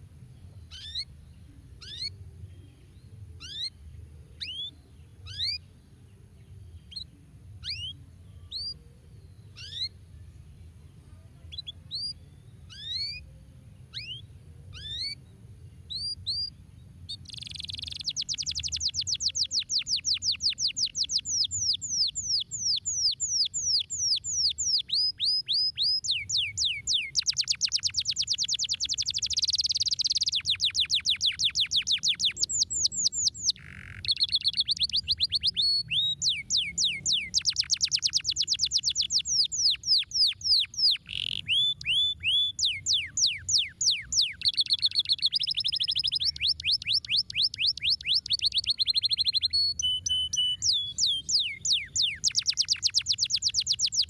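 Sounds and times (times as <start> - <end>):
canary singing: 0.6 - 5.7, 6.7 - 10.0, 11.5 - 15.2, 15.9 - 54.0.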